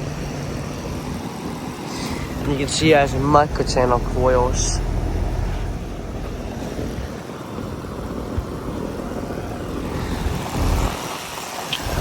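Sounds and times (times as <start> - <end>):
air conditioner fan whooshing: 0.0 - 12.0.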